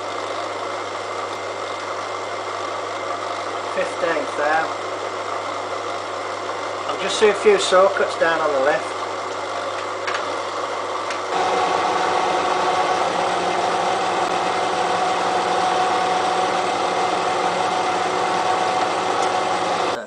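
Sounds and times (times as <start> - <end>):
milling machine running: 0.0 - 20.0
steady machine whine: 0.0 - 20.0.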